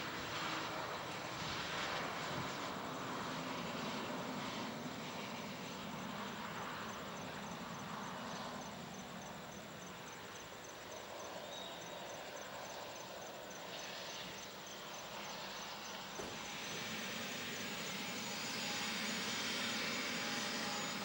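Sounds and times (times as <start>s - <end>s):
distant jet engine: 0.0s - 21.0s
insects chirping: 0.2s - 21.0s.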